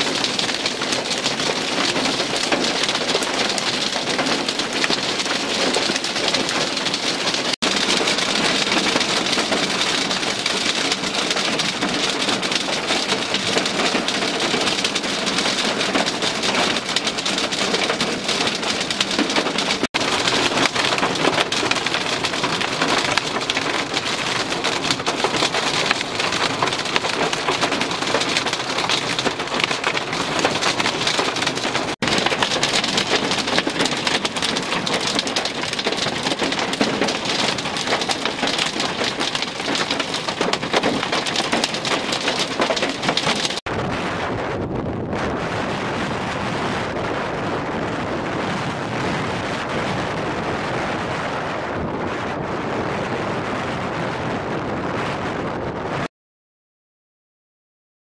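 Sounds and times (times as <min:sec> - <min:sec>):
heavy rain: 0:00.0 - 0:56.1.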